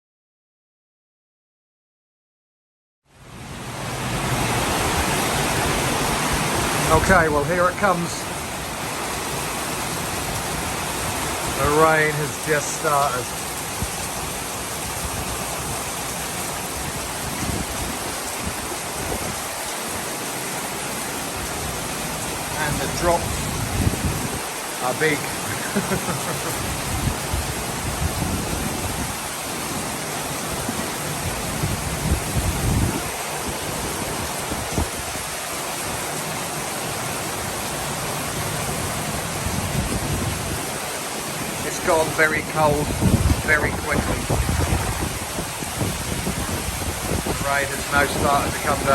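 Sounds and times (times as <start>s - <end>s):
rain hissing: 3.2s - 48.9s.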